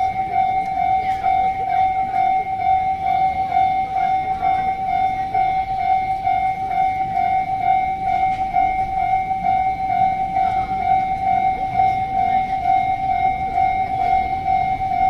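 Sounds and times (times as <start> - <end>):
freight train rumbling: 0.0 - 15.0
level crossing warning bell: 0.0 - 15.0.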